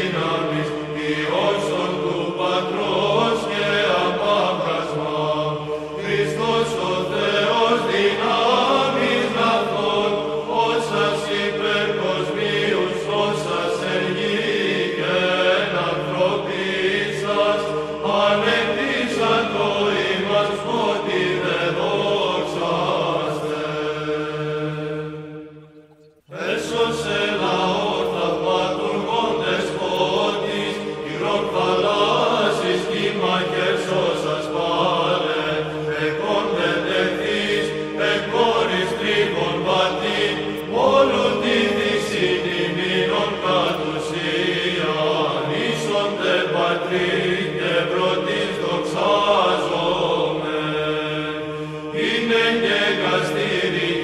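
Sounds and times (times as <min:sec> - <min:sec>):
religious chant singing: 0:00.0 - 0:54.0
steady held drone: 0:00.0 - 0:54.0.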